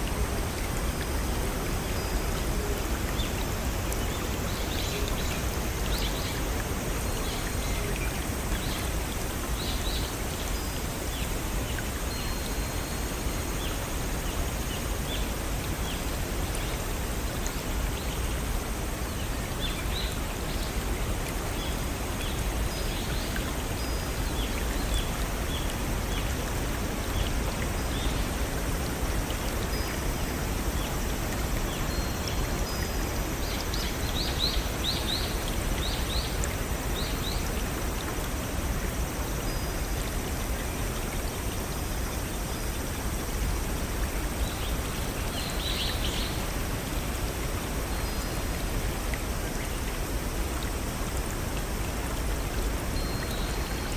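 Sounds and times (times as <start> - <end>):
waterfall and brook rushing: 0.0 - 53.9.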